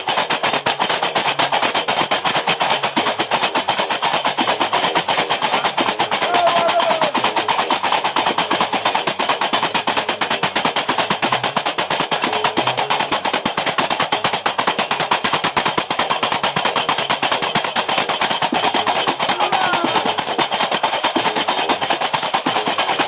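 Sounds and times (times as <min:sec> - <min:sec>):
iron castanets clattering: 0:03.1 - 0:23.0.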